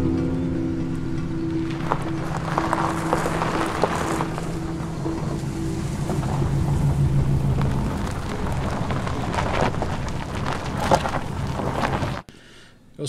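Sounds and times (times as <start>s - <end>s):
car engine running: 0.0s - 12.2s
clicks and crackles: 1.2s - 12.3s.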